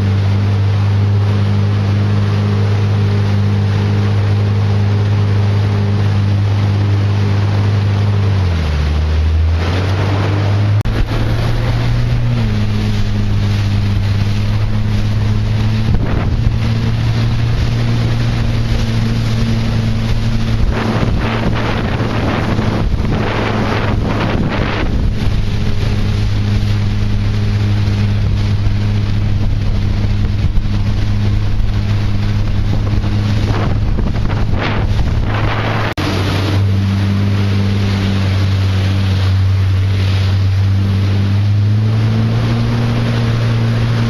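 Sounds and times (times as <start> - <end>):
boat engine droning: 0.0 - 44.0
water spray rushing: 0.0 - 44.0
wind buffeting microphone: 0.0 - 44.0.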